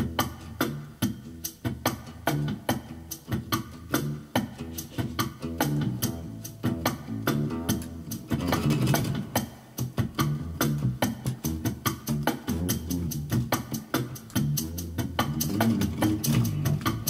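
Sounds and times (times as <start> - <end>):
drum machine beat: 0.0 - 17.0
electric bass line: 0.0 - 17.0.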